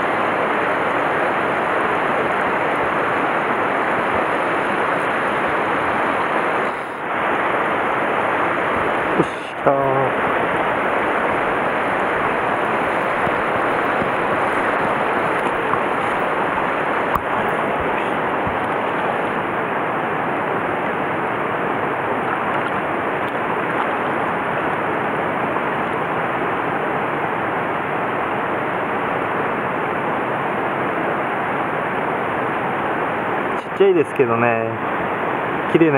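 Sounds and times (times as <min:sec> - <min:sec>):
river rushing over boulders: 0:00.0 - 0:35.9.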